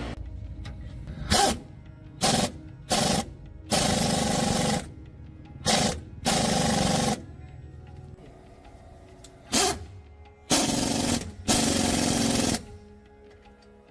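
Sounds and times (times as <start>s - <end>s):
background music: 0.0s - 13.9s.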